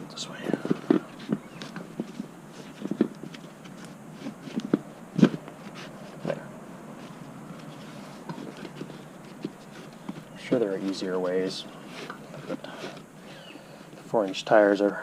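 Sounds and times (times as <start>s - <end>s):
knocks clicks and rubbing of tire: 0.2s - 15.0s.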